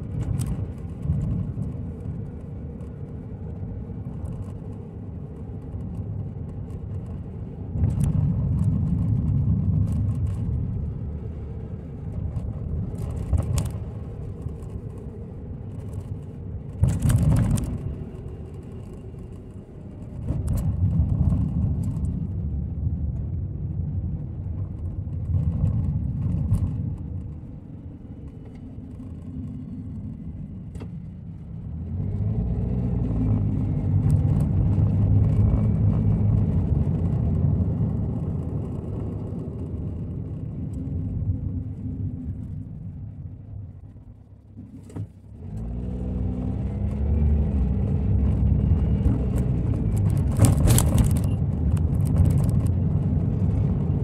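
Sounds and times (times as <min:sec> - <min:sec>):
tyre and engine rumble: 0:00.0 - 0:54.0.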